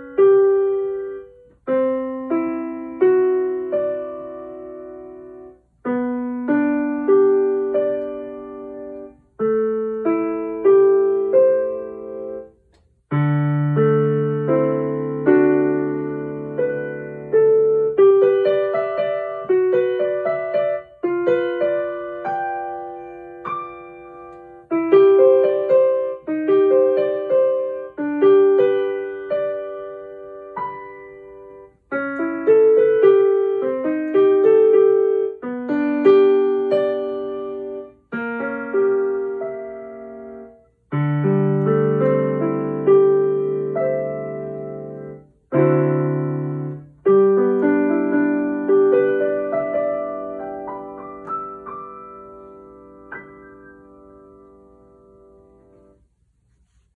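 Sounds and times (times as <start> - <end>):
digital piano melody over chords: 0.0 - 56.1.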